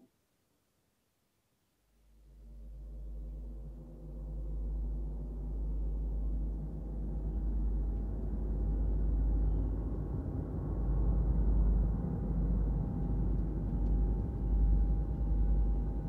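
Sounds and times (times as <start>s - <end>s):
faint high hum: 1.8s - 16.0s
deep rumbling drone: 2.2s - 16.0s.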